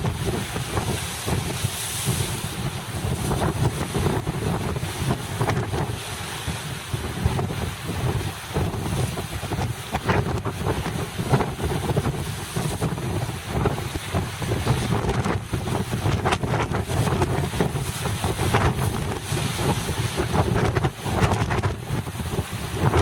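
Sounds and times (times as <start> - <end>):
surf rushing: 0.0 - 23.0
wind buffeting microphone: 0.0 - 23.0.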